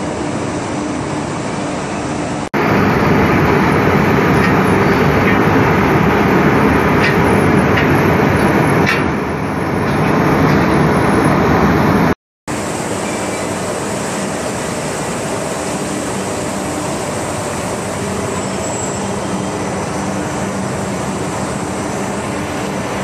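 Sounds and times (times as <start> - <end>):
factory machinery rushing: 0.0 - 23.0.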